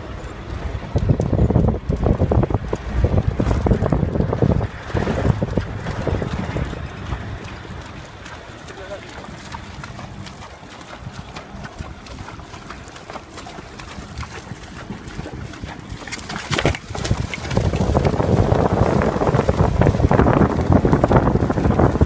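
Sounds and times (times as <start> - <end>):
splashing water: 0.0 - 22.0
wind rumbling on microphone: 0.0 - 22.0.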